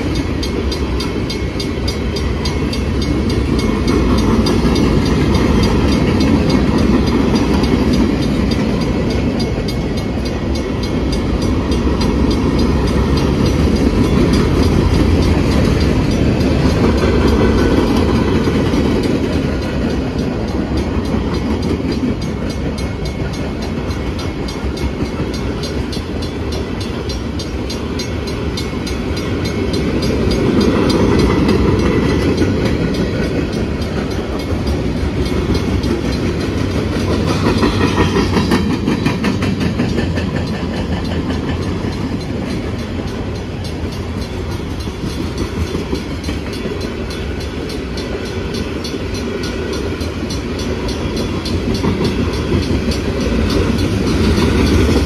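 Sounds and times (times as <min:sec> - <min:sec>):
freight train rumbling: 0:00.0 - 0:55.0
wheels clattering over rail joints: 0:00.0 - 0:55.0.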